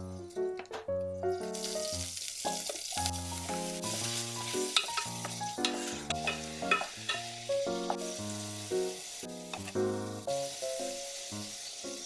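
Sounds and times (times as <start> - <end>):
light background music: 0.0 - 12.0
squid sizzling in hot oil: 1.4 - 12.0.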